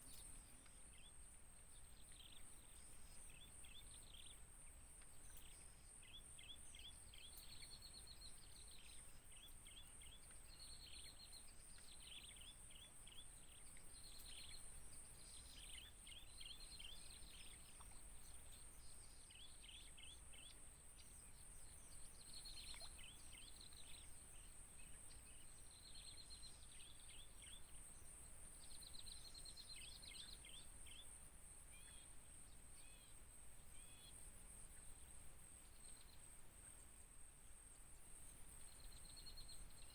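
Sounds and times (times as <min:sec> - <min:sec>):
insect buzz: 0:00.0 - 0:39.9.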